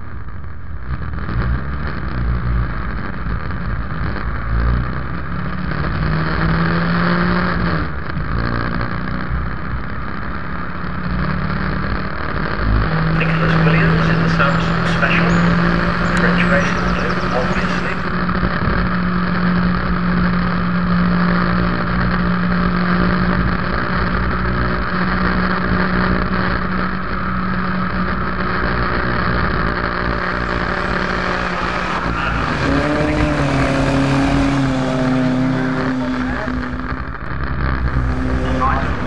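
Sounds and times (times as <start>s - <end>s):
race car engine pulling hard: 1.0s - 39.0s.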